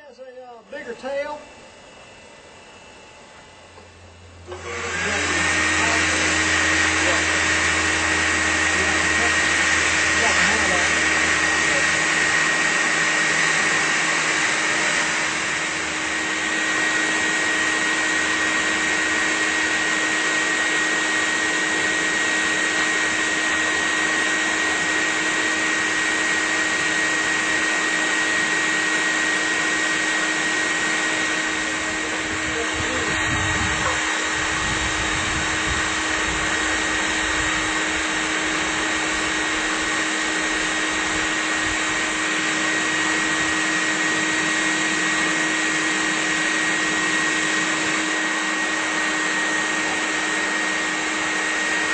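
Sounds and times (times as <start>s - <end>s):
vacuum motor whine: 0.0s - 51.9s.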